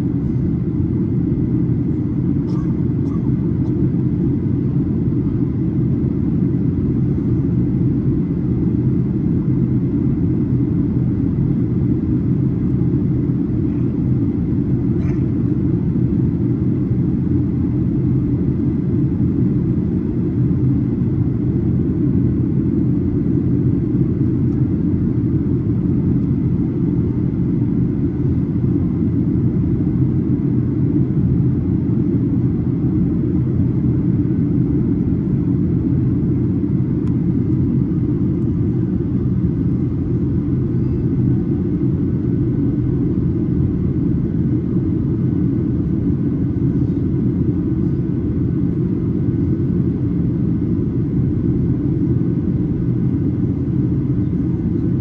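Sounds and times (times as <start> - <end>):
airplane engines rumbling in cabin: 0.0 - 55.0.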